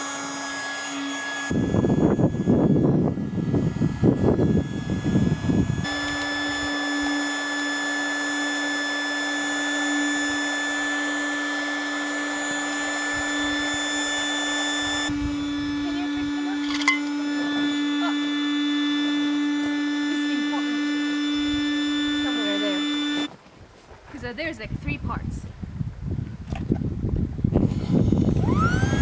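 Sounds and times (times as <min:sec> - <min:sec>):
electric air pump humming: 0:00.0 - 0:23.3, 0:27.6 - 0:29.0.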